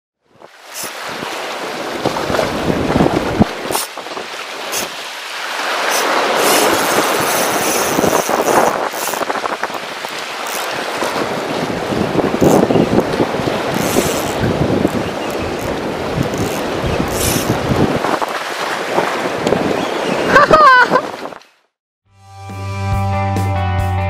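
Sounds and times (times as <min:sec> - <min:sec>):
wind buffeting microphone: 0:00.3 - 0:05.0, 0:05.8 - 0:21.4
waves splashing against concrete: 0:00.3 - 0:21.6.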